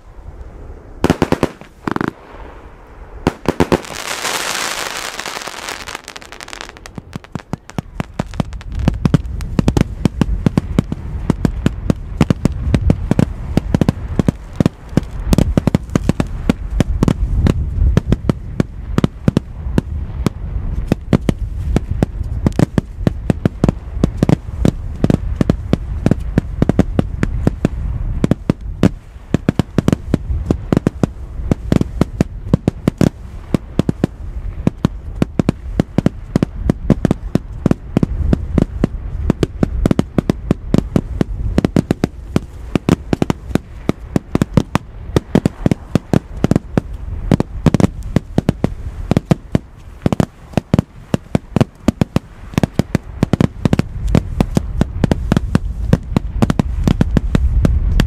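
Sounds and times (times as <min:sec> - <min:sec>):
low rumble: 0:00.0 - 0:58.0
fireworks banging: 0:01.0 - 0:58.0.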